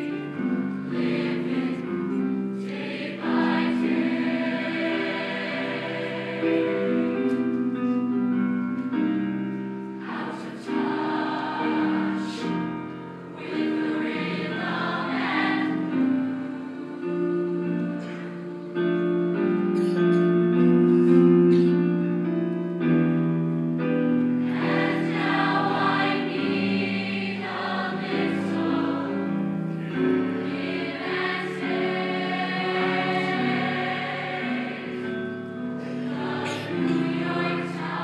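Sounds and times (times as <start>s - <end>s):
choir singing in harmony: 0.0s - 19.8s, 23.8s - 38.0s.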